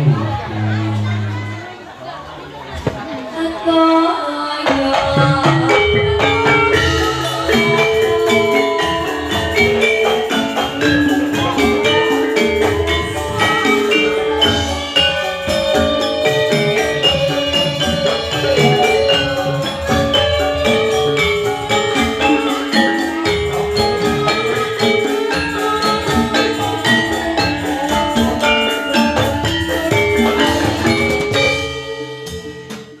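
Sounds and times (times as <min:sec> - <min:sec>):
drumming: 0:04.6 - 0:33.0
struck metallophones melody: 0:04.7 - 0:33.0.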